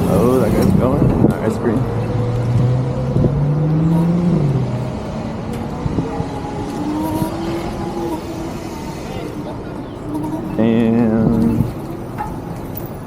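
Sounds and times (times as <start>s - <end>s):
high tone climbing: 0.0s - 13.0s
vehicle engine accelerating: 0.0s - 13.0s.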